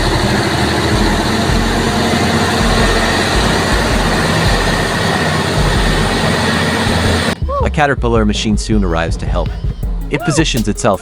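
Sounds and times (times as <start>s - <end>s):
truck engine straining: 0.0s - 11.0s.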